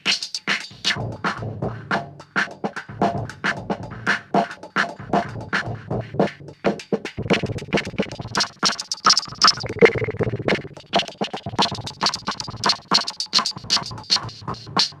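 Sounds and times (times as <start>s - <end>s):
breakbeat drum loop: 0.0s - 15.0s.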